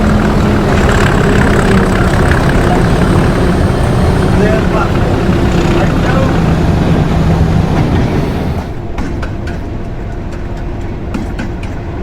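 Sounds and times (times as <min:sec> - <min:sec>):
diesel locomotive engine: 0:00.0 - 0:12.0
wheels clicking over rail joints: 0:00.0 - 0:12.0.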